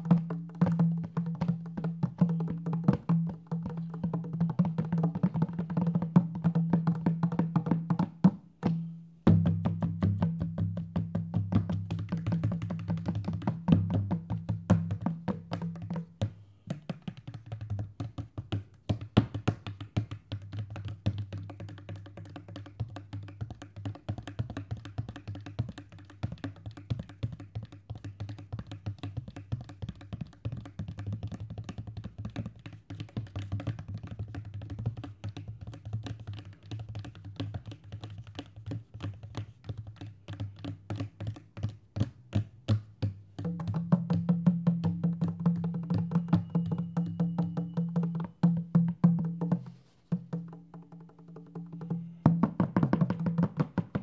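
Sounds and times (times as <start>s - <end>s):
hand drums playing rapidly: 0.0s - 54.0s.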